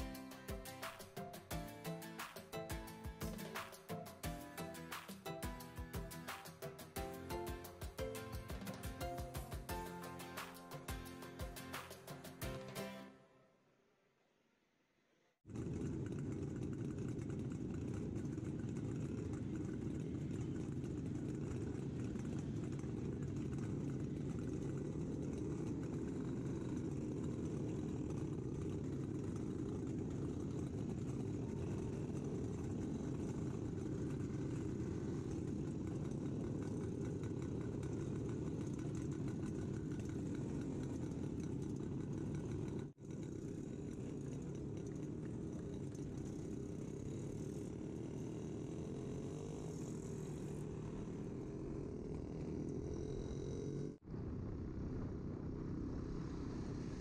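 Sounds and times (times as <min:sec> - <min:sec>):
other motorcycles running: 0:00.0 - 0:13.0, 0:15.4 - 0:57.0
two-stroke motorcycle engine running: 0:00.0 - 0:13.1, 0:15.4 - 0:57.0.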